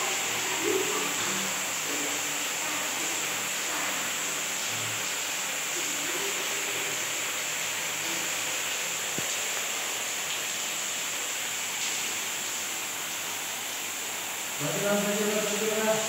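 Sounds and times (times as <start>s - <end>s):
shower jets spraying water: 0.0s - 16.0s.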